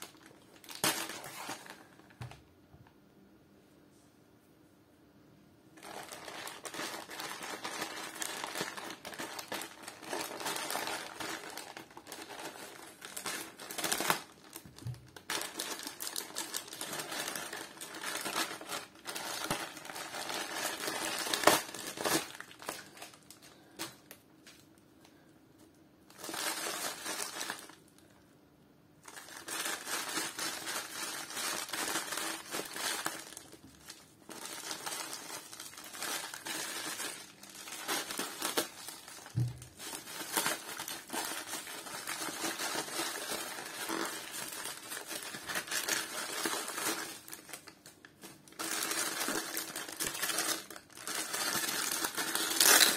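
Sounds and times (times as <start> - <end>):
bubble wrap crinkling: 0.0 - 2.4, 5.8 - 24.8, 26.1 - 28.2, 29.0 - 52.9
plastic bag snapping: 0.0 - 2.4, 5.8 - 24.6, 29.1 - 52.9
plastic mailer bag crinkling: 0.0 - 2.4, 5.8 - 24.2, 26.1 - 28.0, 29.0 - 52.9.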